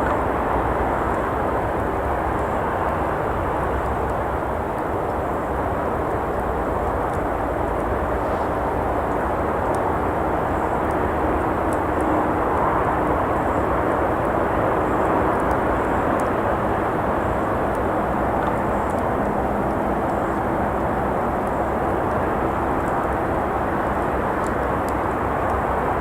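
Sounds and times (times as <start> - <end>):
campfire crackling: 0.0 - 26.0
traffic noise from road: 0.0 - 26.0.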